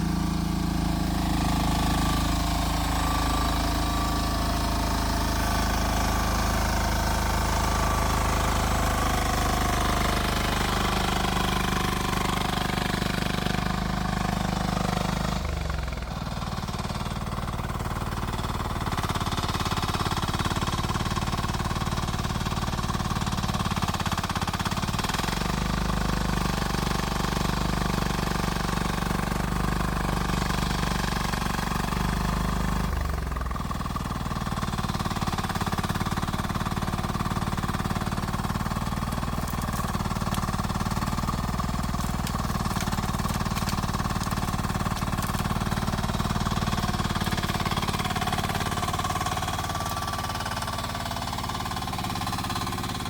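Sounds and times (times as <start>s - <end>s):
small excavator engine running: 0.0s - 53.0s.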